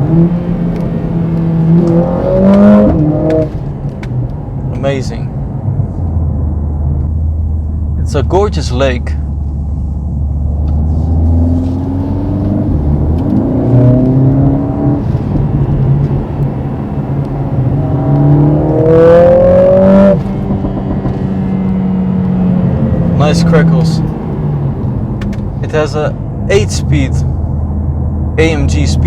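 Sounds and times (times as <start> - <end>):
car engine accelerating hard: 0.0 - 4.0, 9.4 - 29.0.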